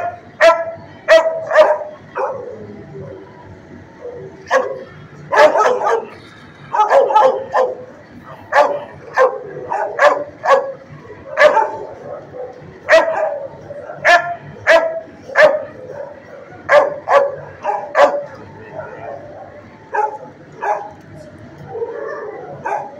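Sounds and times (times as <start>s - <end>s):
dog barking: 0.4s - 2.5s, 4.5s - 6.1s, 6.7s - 7.8s, 8.5s - 21.0s, 21.7s - 22.9s.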